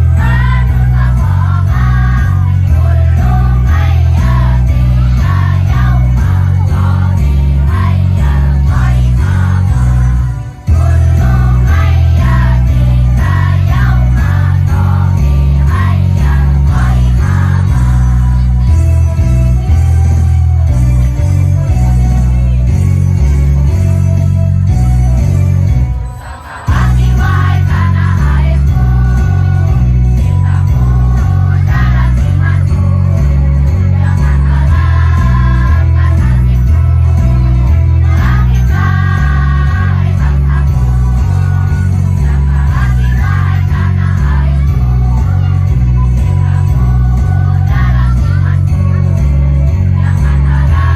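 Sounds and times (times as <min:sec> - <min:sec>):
children's choir singing: 0:00.0 - 0:20.4, 0:25.9 - 0:50.9
backing track with heavy bass: 0:00.0 - 0:50.9
loud musical accompaniment: 0:00.0 - 0:50.9.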